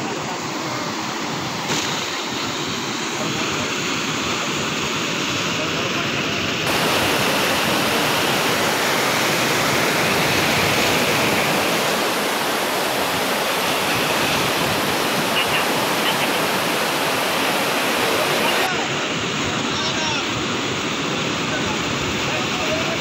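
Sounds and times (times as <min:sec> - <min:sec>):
river water rushing over rapids: 0:00.0 - 0:23.0.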